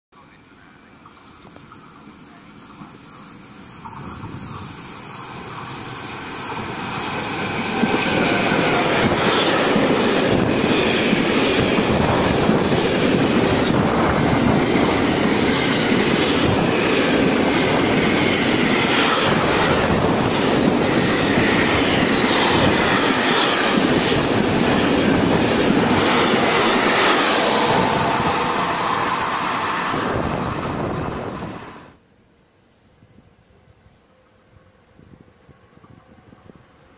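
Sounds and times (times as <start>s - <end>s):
freight train passing: 0.2s - 32.0s.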